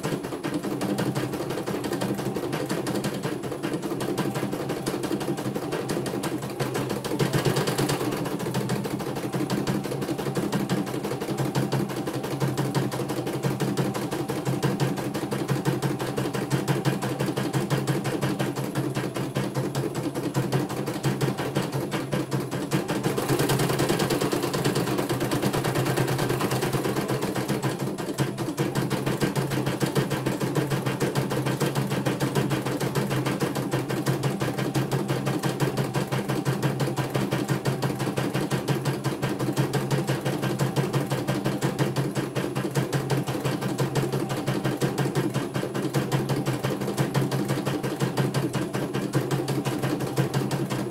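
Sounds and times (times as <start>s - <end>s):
embroidery machine needle clatter: 0.0s - 50.9s.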